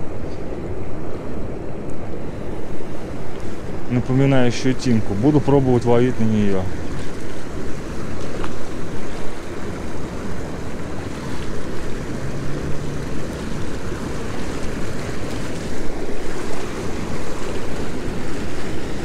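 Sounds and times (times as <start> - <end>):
turbulent water rushing: 0.0 - 19.0.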